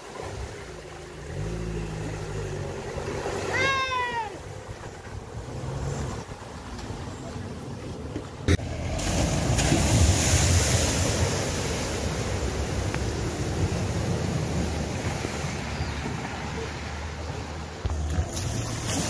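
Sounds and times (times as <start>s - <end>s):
car splashing through water: 0.0s - 19.0s
rushing spray and churning water: 0.0s - 19.0s.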